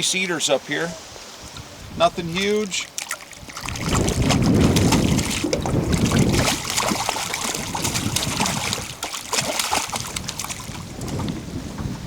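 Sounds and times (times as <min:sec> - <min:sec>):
water lapping against boat: 0:00.4 - 0:12.0
wind buffeting microphone: 0:01.0 - 0:12.0.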